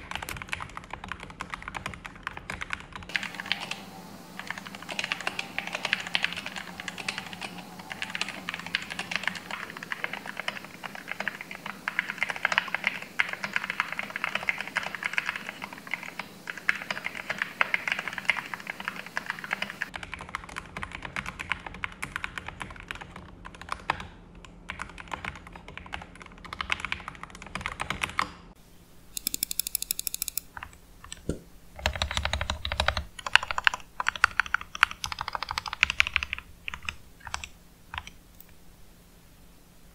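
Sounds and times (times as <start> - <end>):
mechanical keyboard typing: 0.0 - 28.4, 29.2 - 38.2.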